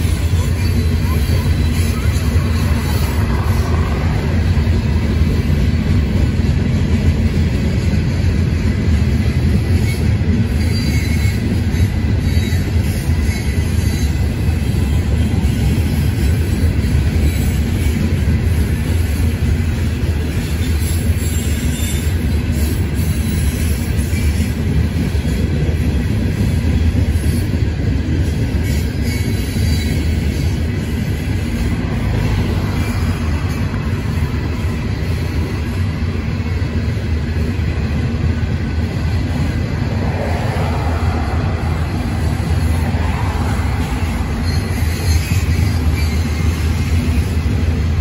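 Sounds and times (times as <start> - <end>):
freight train rolling on rails: 0.0 - 48.0.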